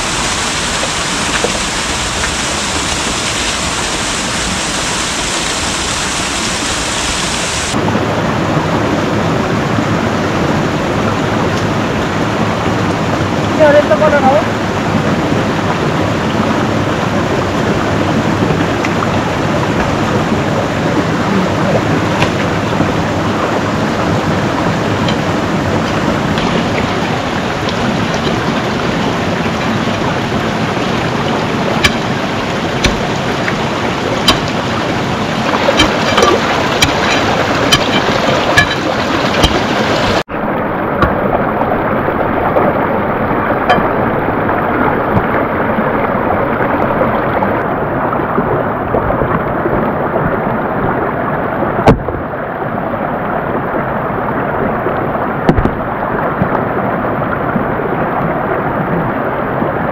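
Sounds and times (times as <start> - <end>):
loud steady rushing noise: 0.0 - 48.1.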